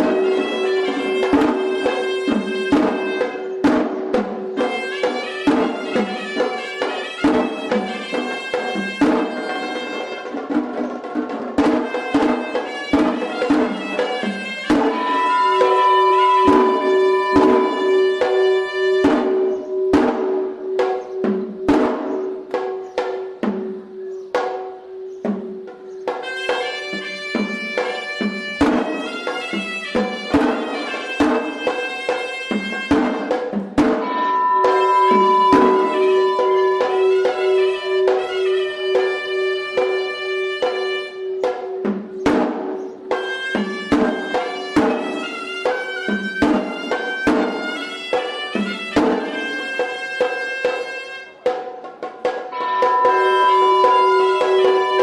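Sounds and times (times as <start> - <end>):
drum strokes: 0.0 - 55.0
shawm reedy melody: 0.0 - 55.0.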